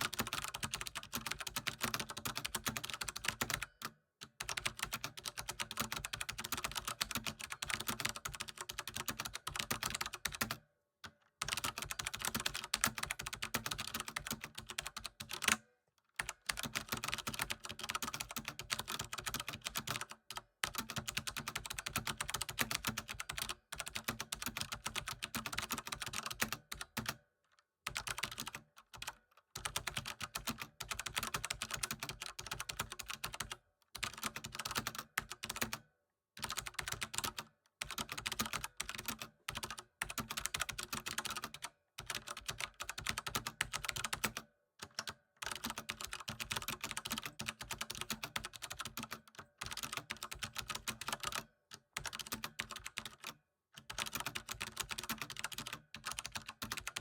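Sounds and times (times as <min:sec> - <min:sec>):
fast typing on keyboard: 0:00.0 - 0:10.6, 0:11.4 - 0:15.6, 0:16.2 - 0:27.2, 0:27.9 - 0:35.8, 0:36.4 - 0:57.0.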